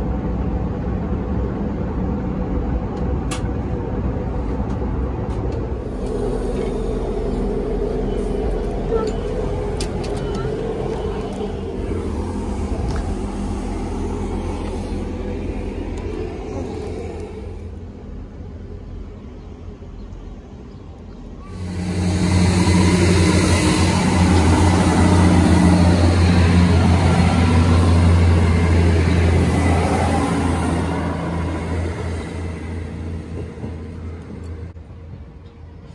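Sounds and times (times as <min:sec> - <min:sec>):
train engine humming: 0:00.0 - 0:35.9.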